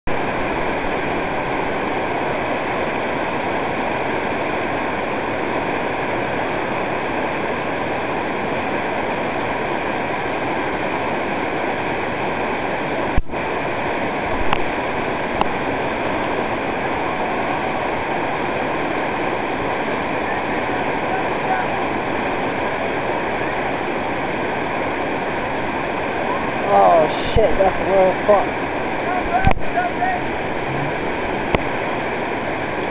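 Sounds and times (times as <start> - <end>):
whitewater rushing over boulders: 0.1 - 32.9.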